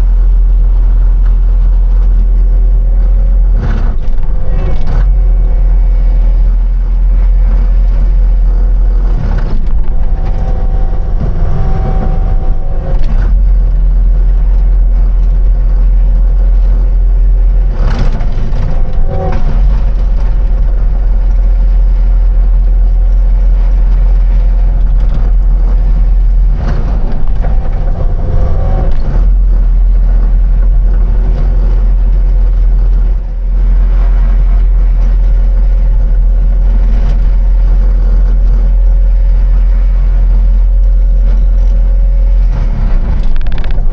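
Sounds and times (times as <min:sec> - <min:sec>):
construction machine engine running: 0:00.0 - 0:43.9.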